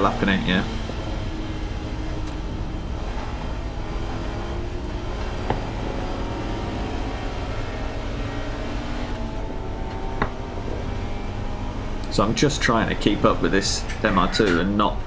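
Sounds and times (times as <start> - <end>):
race car engine running: 0.0 - 15.0
road noise: 0.0 - 15.0.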